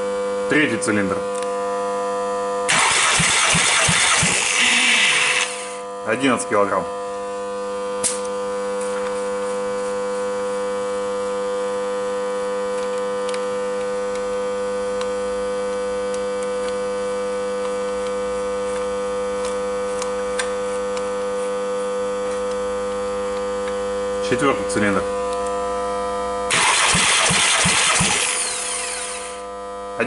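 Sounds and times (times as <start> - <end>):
electrical mains hum: 0.0 - 27.4.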